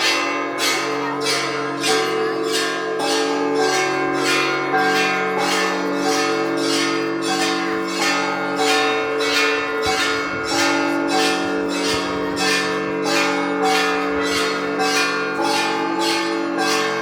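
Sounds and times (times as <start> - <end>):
hum of large bells: 0.0 - 17.0
small church bells struck: 0.0 - 17.0.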